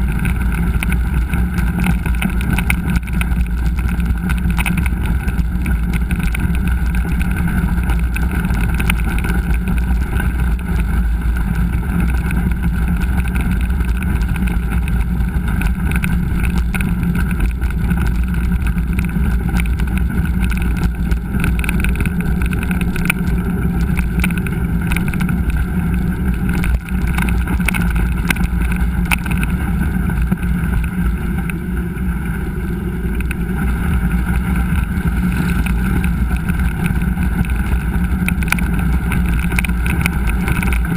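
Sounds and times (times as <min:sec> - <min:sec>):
bike knocks and rattles: 0:00.0 - 0:40.9
wind rush on microphone: 0:00.0 - 0:40.9.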